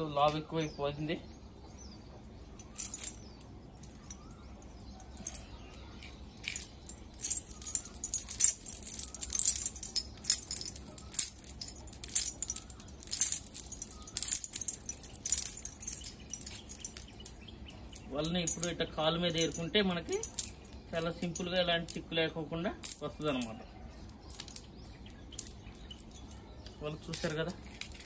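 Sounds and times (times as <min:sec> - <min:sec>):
lead sinkers clinking: 0:02.6 - 0:28.0.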